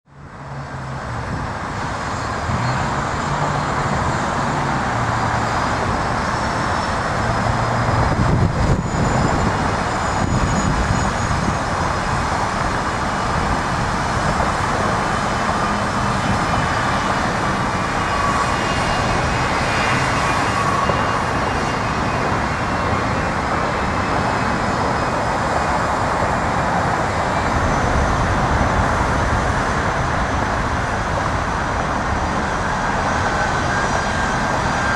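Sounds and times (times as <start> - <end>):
faint high engine whine: 0.1 - 34.9
jet engines rushing: 0.1 - 34.9.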